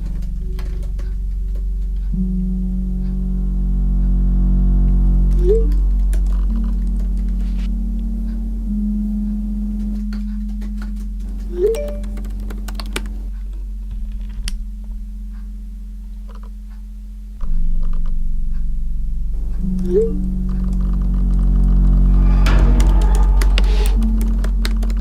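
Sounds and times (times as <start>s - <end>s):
ambient music drone: 0.0s - 25.0s.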